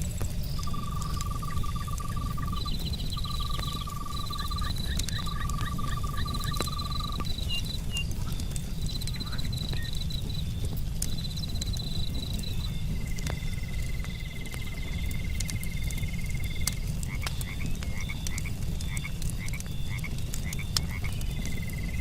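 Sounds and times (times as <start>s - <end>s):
crickets trilling: 0.0s - 20.0s, 20.8s - 22.0s
campfire crackling: 0.0s - 22.0s.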